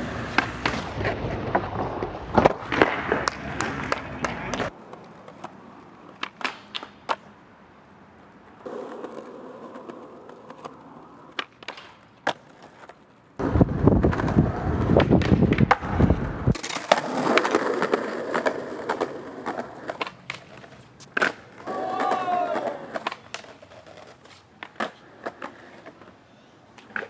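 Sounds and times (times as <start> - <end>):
skateboard tail clacks: 0.0 - 7.4, 8.6 - 27.0
skateboard wheels rolling on pavement: 0.0 - 27.0.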